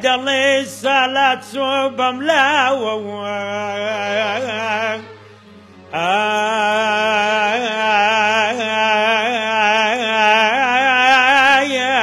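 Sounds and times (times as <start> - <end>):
violin accompaniment: 0.0 - 12.0.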